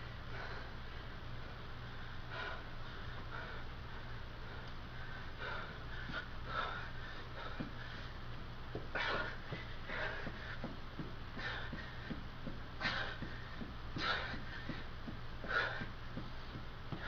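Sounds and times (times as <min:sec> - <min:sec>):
steady low hum: 0:00.0 - 0:17.0
man breathing hard: 0:00.1 - 0:17.0.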